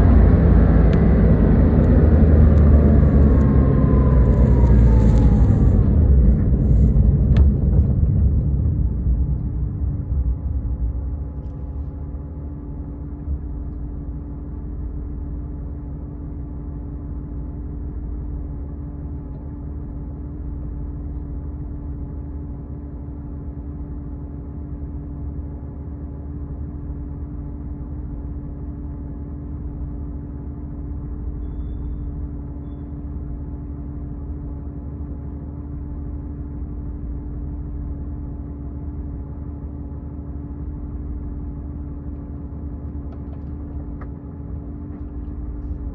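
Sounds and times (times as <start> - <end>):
car engine running: 0.0 - 45.9.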